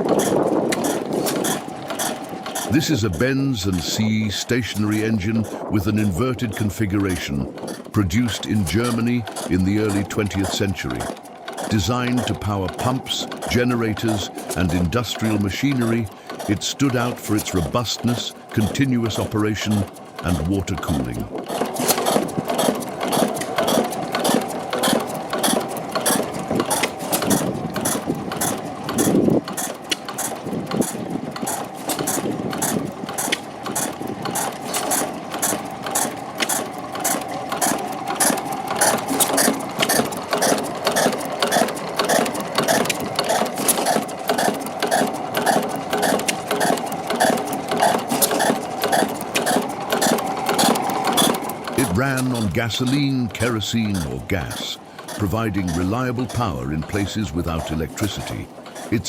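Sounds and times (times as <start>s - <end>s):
engine drone: 0.0s - 59.0s
stationary engine clicking rhythmically: 0.0s - 59.0s.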